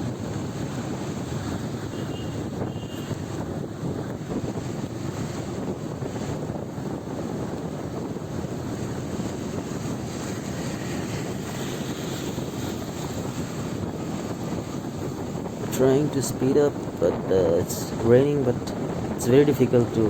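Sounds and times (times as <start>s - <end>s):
motorbike running: 0.0s - 20.0s
road noise: 0.0s - 20.0s
wind rushing over microphone: 0.0s - 20.0s.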